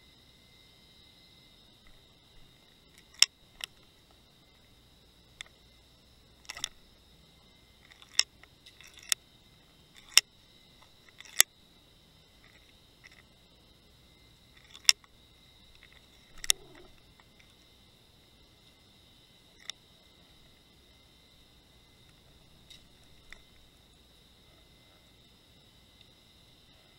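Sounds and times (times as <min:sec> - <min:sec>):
faint high whine: 0:00.0 - 0:26.9.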